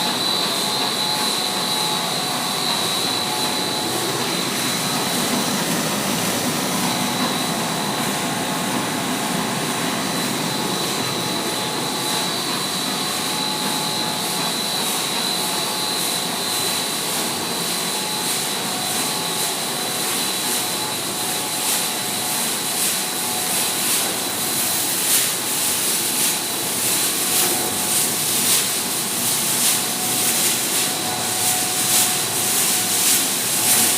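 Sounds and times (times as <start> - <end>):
continuous high whine: 0.0 - 33.9
production line machinery running: 0.0 - 33.9.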